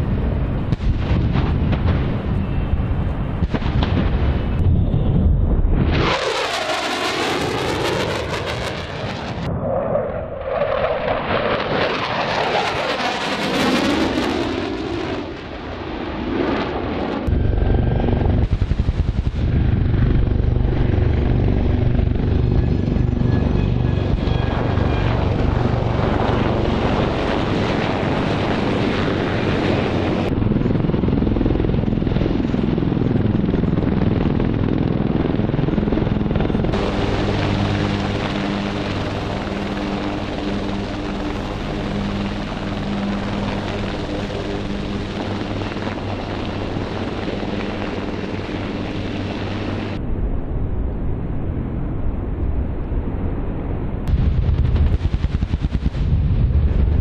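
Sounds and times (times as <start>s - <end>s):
helicopters flying: 0.0s - 57.0s.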